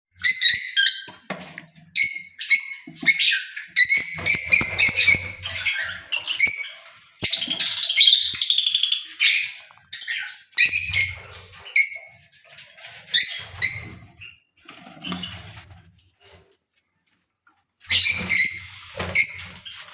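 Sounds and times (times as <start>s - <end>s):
lovebirds chirping and squawking: 0.2s - 15.8s, 17.8s - 19.9s.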